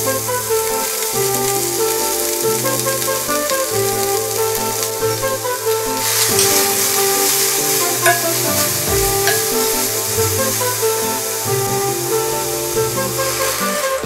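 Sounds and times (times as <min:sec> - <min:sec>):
instrumental background music: 0:00.0 - 0:14.0
vegetables sizzling in hot oil: 0:00.0 - 0:14.0.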